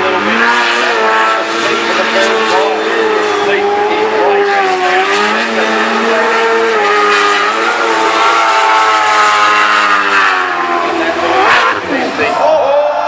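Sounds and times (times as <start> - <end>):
boat engine running at high revs: 0.0 - 12.2.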